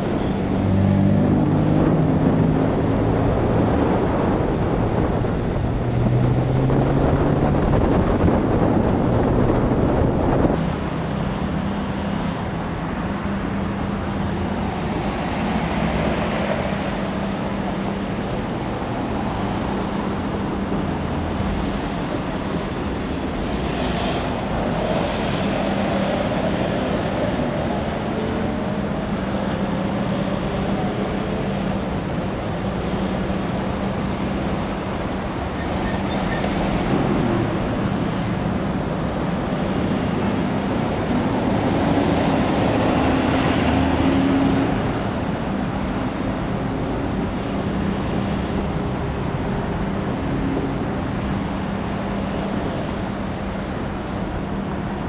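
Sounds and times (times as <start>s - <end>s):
vehicles passing on highway: 0.0s - 55.0s.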